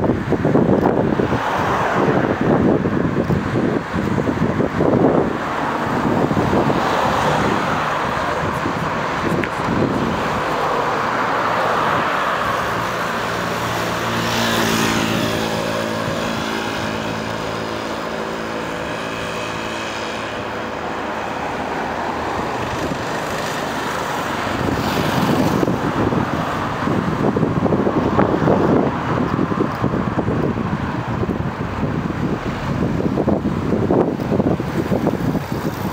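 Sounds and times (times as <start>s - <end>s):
street traffic: 0.0s - 35.9s
vehicle engine hum: 0.0s - 35.9s
wind noise on microphone: 0.0s - 35.9s.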